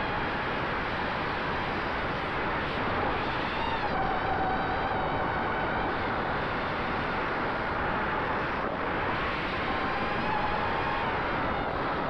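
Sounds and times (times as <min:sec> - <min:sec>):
wind noise: 0:00.0 - 0:12.0.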